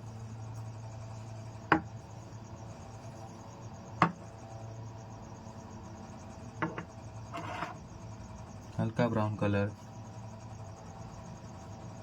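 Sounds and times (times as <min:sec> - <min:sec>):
faint cricket-like chirring: 0:00.0 - 0:12.0
steady low hum: 0:00.0 - 0:12.0.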